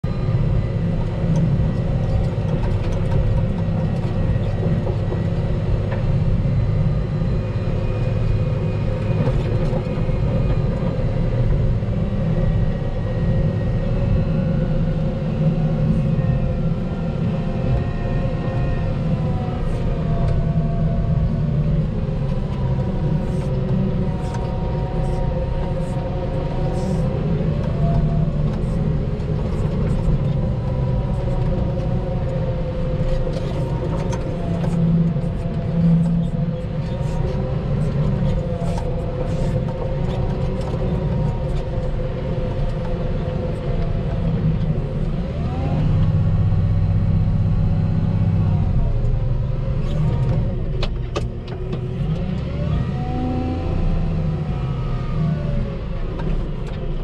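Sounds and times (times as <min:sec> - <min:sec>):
faint whining tones: 0:00.0 - 0:57.0
wheel loader engine rumbling: 0:00.0 - 0:57.0.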